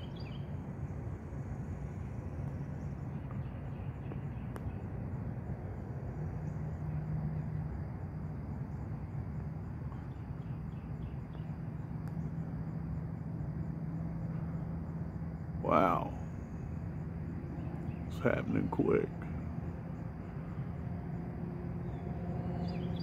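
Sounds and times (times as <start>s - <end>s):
faint high insect drone: 0.0s - 23.0s
low steady hum: 0.0s - 23.0s.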